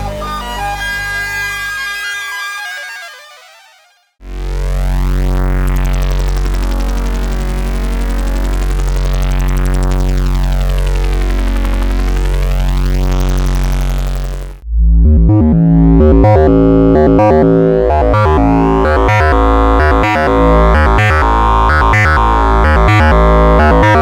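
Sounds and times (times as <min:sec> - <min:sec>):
rhythmic pulsing synth bass: 0:00.0 - 0:02.0, 0:04.2 - 0:24.0
low synthesizer drone: 0:04.2 - 0:24.0.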